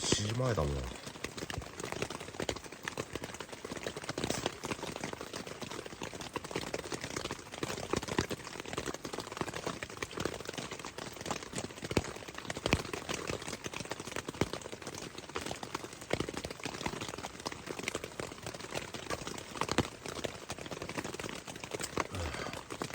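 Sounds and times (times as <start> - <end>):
rain tapping on tent fabric: 0.0 - 22.9.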